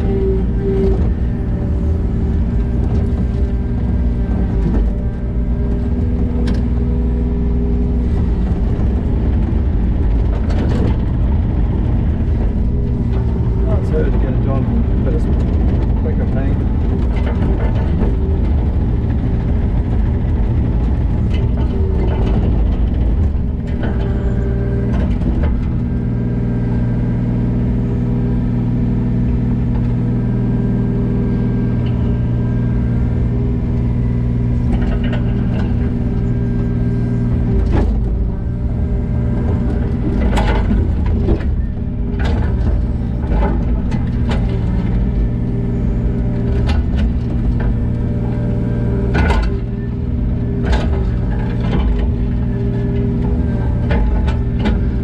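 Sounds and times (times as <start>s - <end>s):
diesel engine of heavy machinery: 0.0s - 55.0s.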